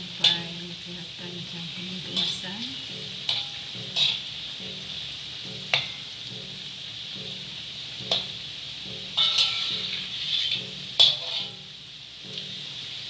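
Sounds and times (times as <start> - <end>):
food sizzling in hot oil: 0.0 - 13.0
metal spatula scraping a wok: 0.1 - 0.9, 1.6 - 13.0.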